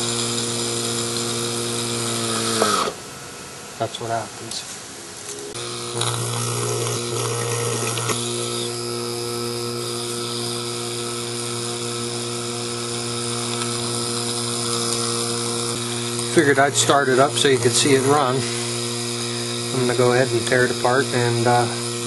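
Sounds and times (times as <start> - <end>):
refrigerator compressor running: 0.0 - 3.8, 5.5 - 22.0.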